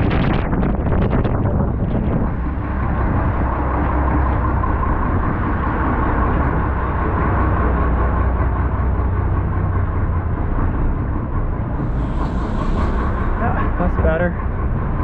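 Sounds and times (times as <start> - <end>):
bus engine running: 0.0 - 15.0
wind buffeting microphone: 0.0 - 15.0.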